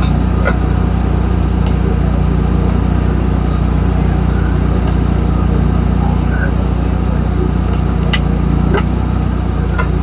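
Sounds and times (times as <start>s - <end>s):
engine idling hum: 0.0s - 10.0s.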